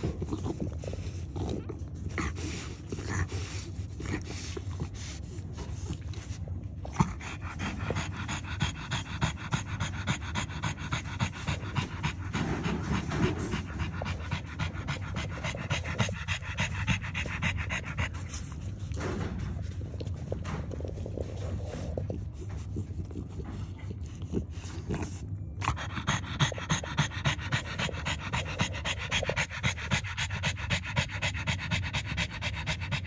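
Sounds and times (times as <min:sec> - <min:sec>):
dog panting rapidly: 0:00.0 - 0:33.0.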